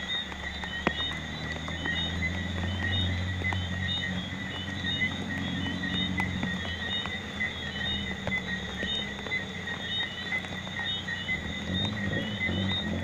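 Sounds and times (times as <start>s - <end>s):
drops ticking: 0.0s - 13.0s
high chirping calls: 0.0s - 13.0s
low pulsing drone: 0.0s - 13.0s
rain falling: 0.0s - 13.0s.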